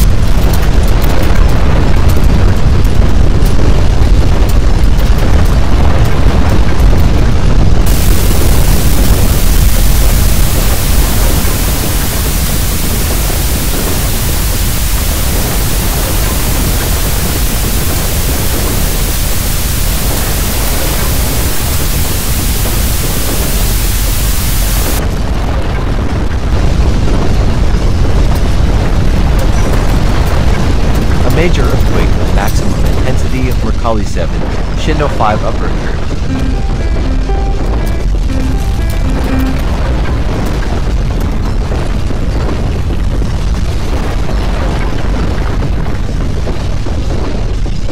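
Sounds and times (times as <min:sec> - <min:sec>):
static hiss: 0:00.0 - 0:25.4, 0:28.2 - 0:42.8
deep rumble: 0:00.0 - 0:47.9.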